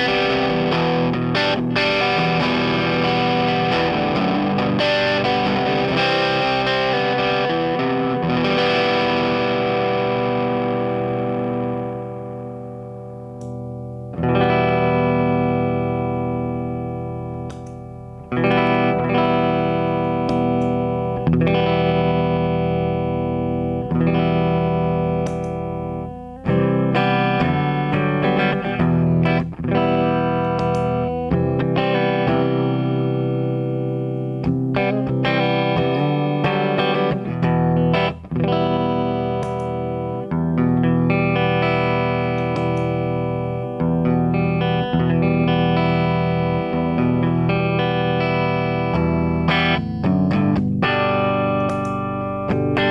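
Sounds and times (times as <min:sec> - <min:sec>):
electric guitar chords: 0:00.0 - 0:52.9.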